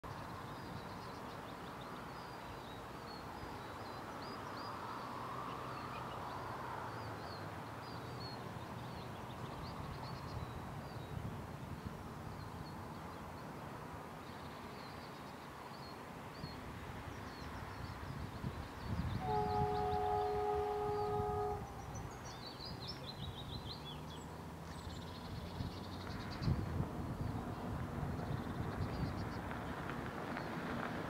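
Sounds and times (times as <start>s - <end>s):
small birds chirping and twittering: 0.0s - 30.8s
faint outdoor background hiss: 0.1s - 31.0s.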